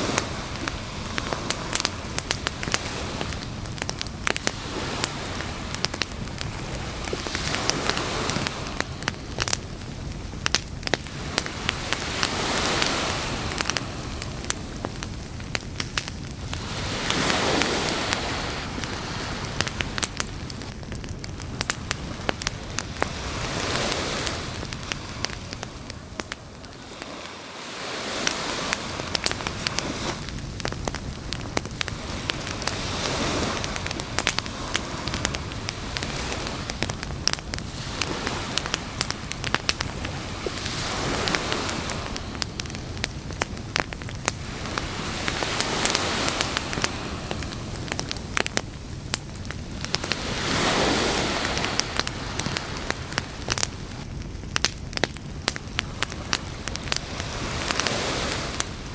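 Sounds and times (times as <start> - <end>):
surf washing in: 0.0 - 54.1, 55.4 - 58.9
campfire crackling and popping: 0.0 - 58.9.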